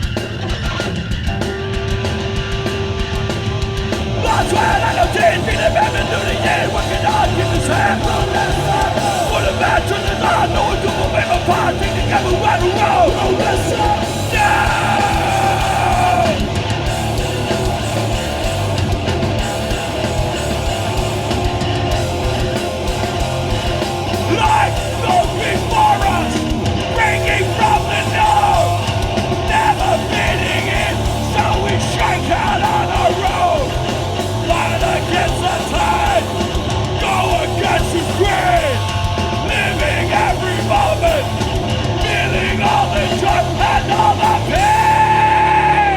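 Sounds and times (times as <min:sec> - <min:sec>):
distorted guitars: 0:00.0 - 0:45.9
drums: 0:00.0 - 0:45.9
punk band playing loudly: 0:00.0 - 0:45.9
shouted vocals: 0:04.1 - 0:18.6, 0:20.8 - 0:45.9.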